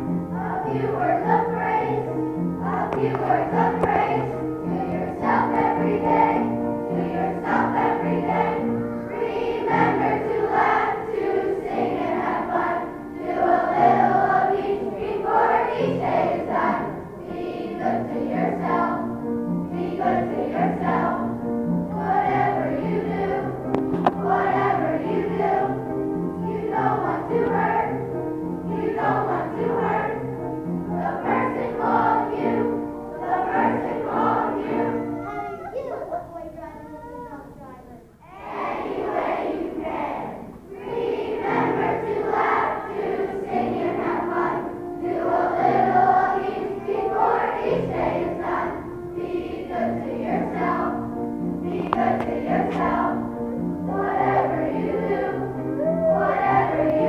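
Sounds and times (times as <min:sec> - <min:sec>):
children's choir singing: 0:00.0 - 0:35.7, 0:37.8 - 0:57.0
musical accompaniment: 0:00.0 - 0:36.4, 0:37.5 - 0:57.0.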